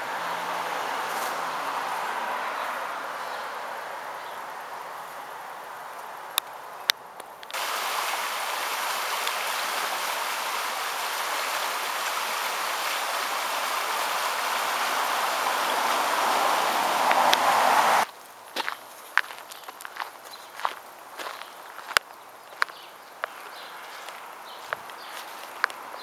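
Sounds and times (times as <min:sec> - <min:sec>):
creek water flowing over stones: 0:00.0 - 0:26.0.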